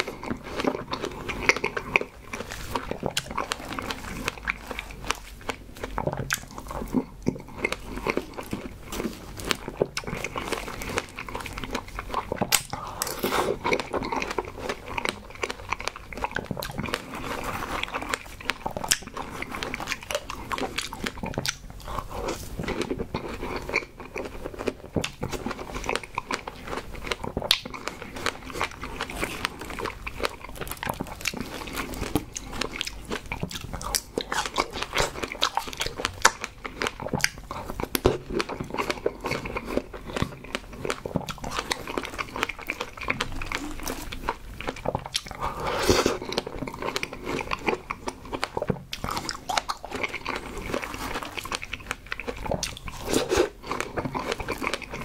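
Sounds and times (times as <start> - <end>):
chewing strawberries: 0.0 - 55.0.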